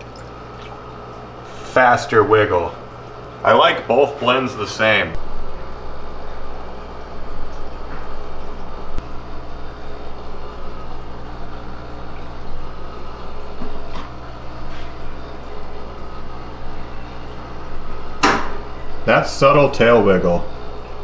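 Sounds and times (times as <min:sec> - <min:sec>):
machine hum with rushing noise: 0:00.0 - 0:21.0.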